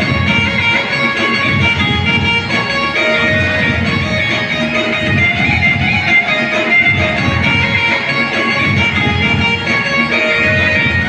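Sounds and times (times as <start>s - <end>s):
loud dance music: 0.0s - 11.0s.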